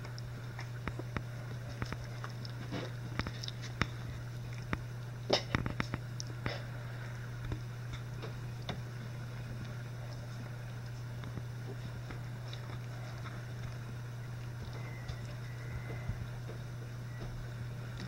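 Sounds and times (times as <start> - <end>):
puppies clicking and smacking: 0.0 - 6.7, 7.4 - 18.0
steady low hum: 0.0 - 18.0.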